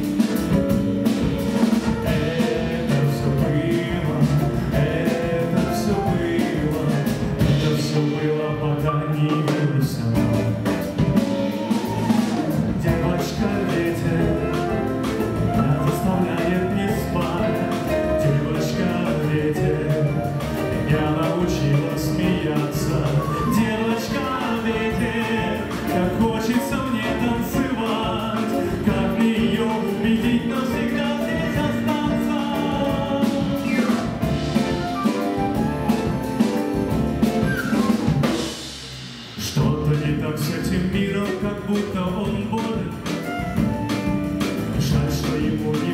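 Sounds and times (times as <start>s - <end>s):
upright double bass: 0.0s - 45.9s
man singing: 0.2s - 10.8s, 11.8s - 36.9s, 39.4s - 45.9s.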